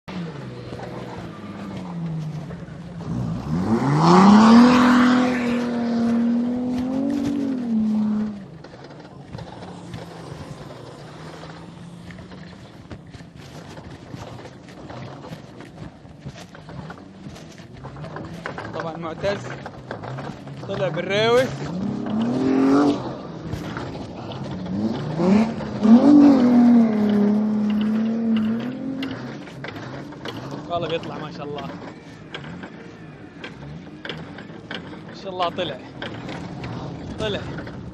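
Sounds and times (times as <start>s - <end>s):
engine revving: 0.0s - 37.9s.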